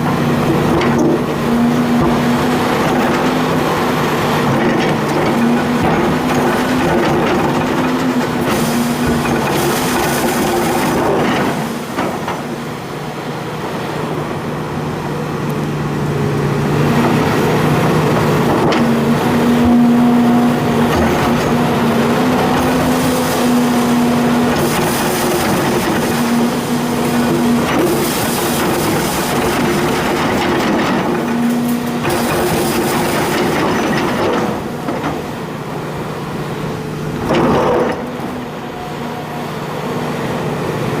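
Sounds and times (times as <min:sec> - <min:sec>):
excavator diesel engine under load: 0:00.0 - 0:41.0.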